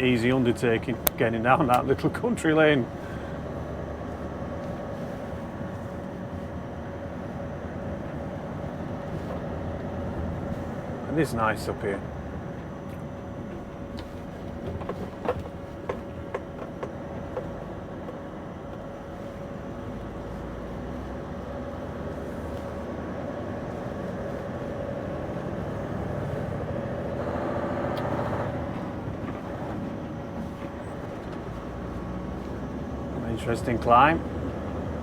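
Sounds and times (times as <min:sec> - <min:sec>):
lorry engine drone in cab: 0:00.0 - 0:35.0
steady whine: 0:00.0 - 0:35.0.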